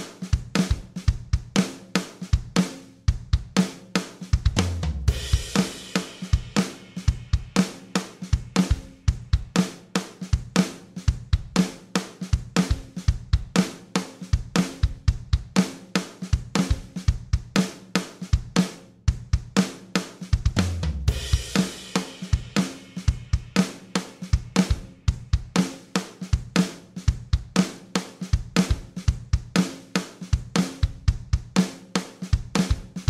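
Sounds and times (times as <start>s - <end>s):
background music with drum beat: 0.0s - 33.0s.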